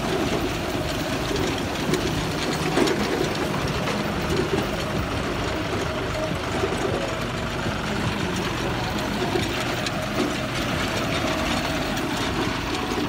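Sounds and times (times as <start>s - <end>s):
seed drill clattering: 0.0s - 13.0s
tractor engine running: 0.0s - 13.0s.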